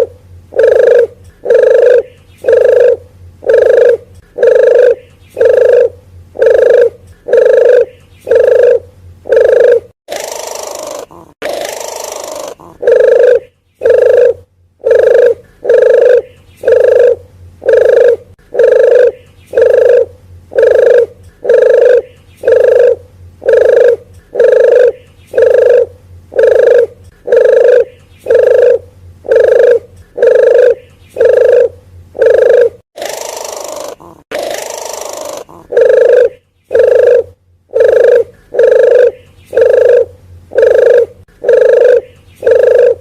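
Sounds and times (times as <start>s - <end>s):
dove cooing: 0.0s - 43.0s
hissy rasping bird call: 0.0s - 43.0s.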